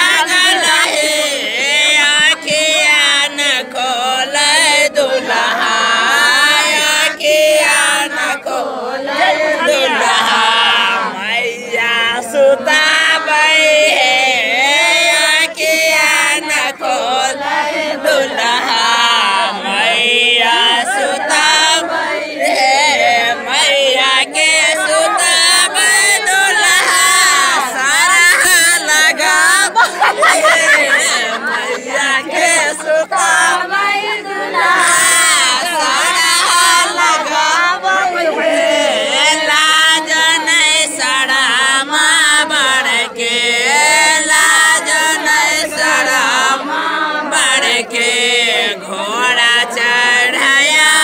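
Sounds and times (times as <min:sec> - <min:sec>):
men singing loudly: 0:00.0 - 0:51.0.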